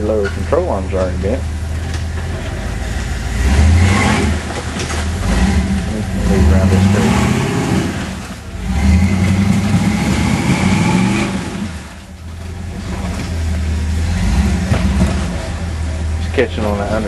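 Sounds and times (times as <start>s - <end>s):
engine revving: 0.6s - 17.0s.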